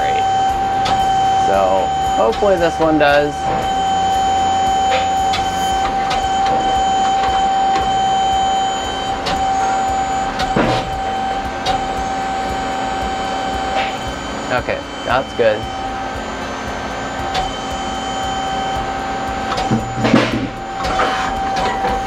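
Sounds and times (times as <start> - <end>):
hydraulics whining: 0.0 - 22.0.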